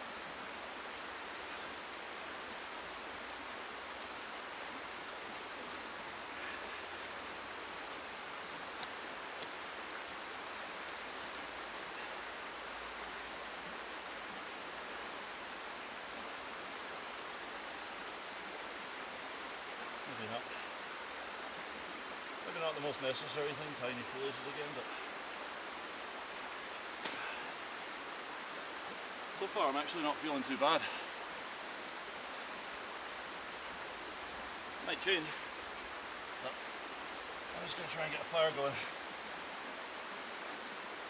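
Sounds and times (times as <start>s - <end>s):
river flowing: 0.0s - 41.0s.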